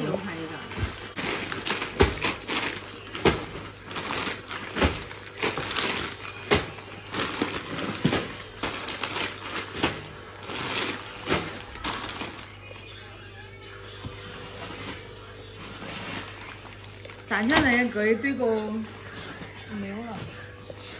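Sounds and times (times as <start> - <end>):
plastic bags crinkling: 0.0 - 13.1, 14.2 - 20.9.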